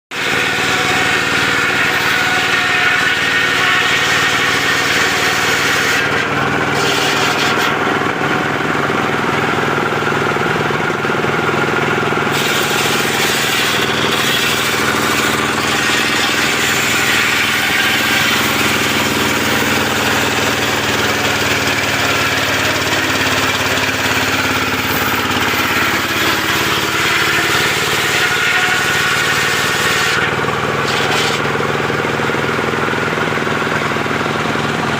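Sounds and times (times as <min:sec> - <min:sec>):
sawmill engine running: 0:00.1 - 0:34.9.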